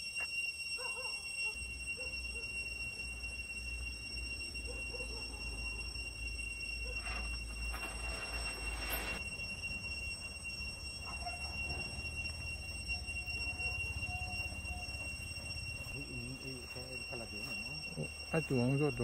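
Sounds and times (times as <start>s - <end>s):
cicadas singing: 0.0s - 19.0s.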